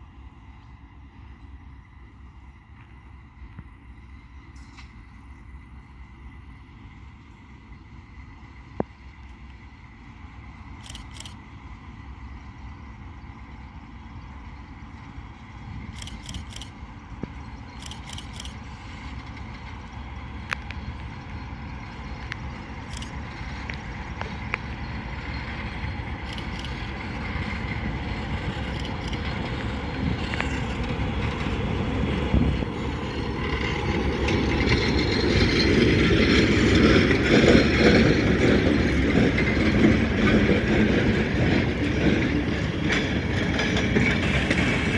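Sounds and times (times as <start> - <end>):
freight train rumbling: 0.0 - 44.9
train wagons rattling: 7.1 - 44.9.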